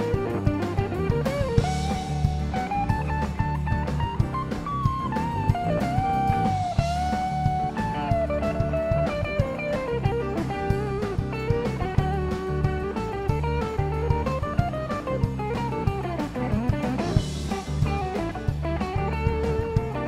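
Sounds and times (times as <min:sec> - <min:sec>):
bass guitar: 0:00.0 - 0:20.0
drum kit: 0:00.0 - 0:20.0
electric guitar solo: 0:00.0 - 0:20.0.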